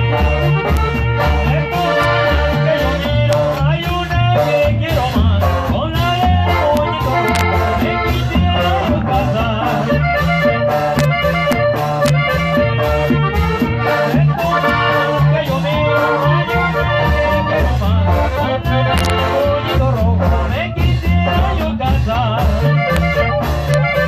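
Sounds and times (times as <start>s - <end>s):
accordion melody: 0.0s - 24.0s
bouncing bass line: 0.0s - 24.0s
steady beat: 0.0s - 24.0s.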